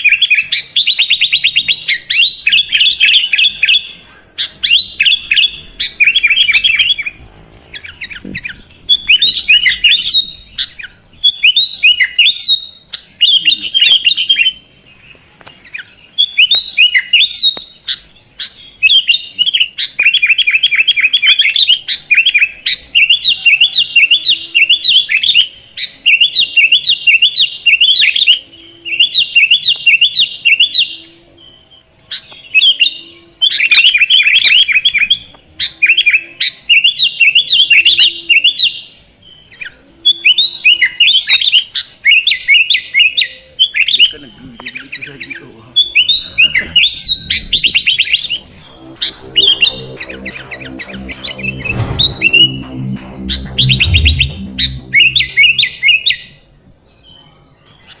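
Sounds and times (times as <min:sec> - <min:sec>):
bulbul singing: 0:00.0 - 0:56.5.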